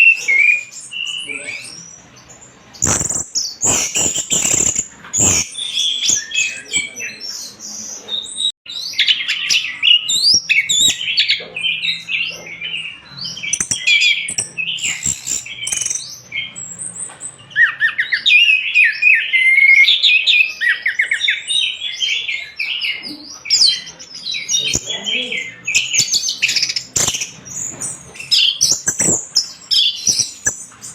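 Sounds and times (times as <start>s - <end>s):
bird singing: 0.0s - 30.9s.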